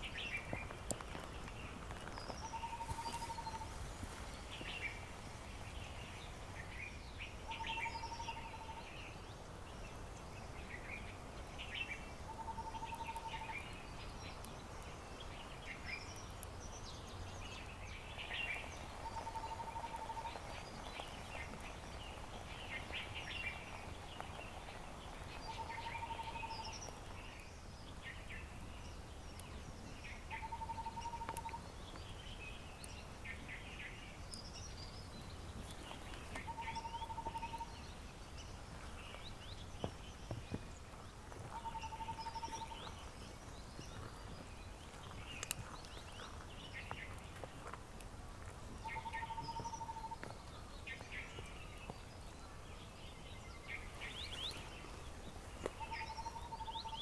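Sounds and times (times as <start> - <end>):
birds chirping and singing: 5.7 - 40.9, 41.5 - 47.5, 48.8 - 57.0.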